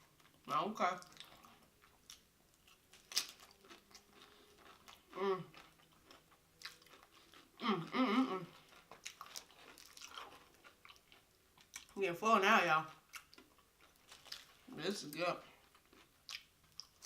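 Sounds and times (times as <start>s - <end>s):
chewing and crunching chips: 0.1s - 12.1s, 12.7s - 17.0s.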